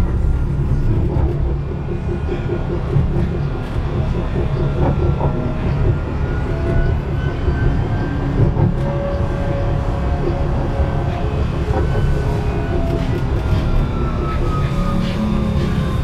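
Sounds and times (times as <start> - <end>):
tram wheels rumbling on rail: 0.0 - 16.0.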